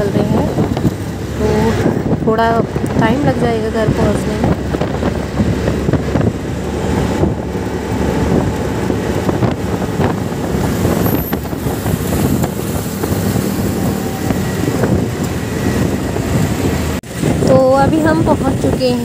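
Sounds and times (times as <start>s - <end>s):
auto-rickshaw engine and road rumble: 0.0s - 19.0s
wind buffeting microphone: 0.0s - 19.0s.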